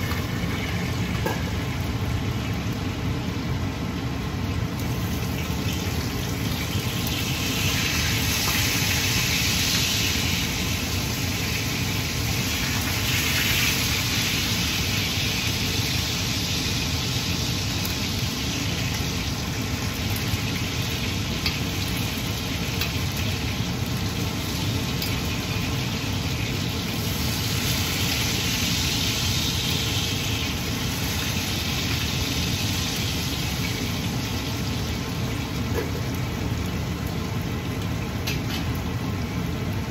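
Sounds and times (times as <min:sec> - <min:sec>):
meat sizzling in a pan: 0:00.0 - 0:39.9
range hood fan drone: 0:00.0 - 0:39.9.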